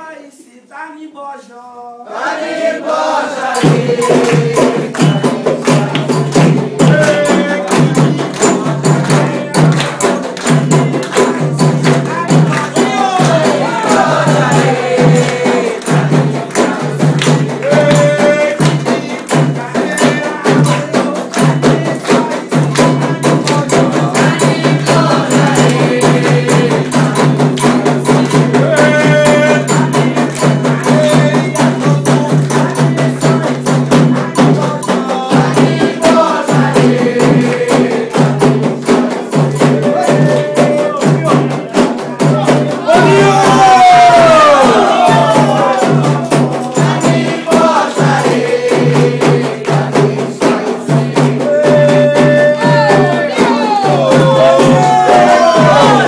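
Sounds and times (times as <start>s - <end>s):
fast steady percussion: 2.0s - 56.0s
voices chanting: 2.0s - 56.0s.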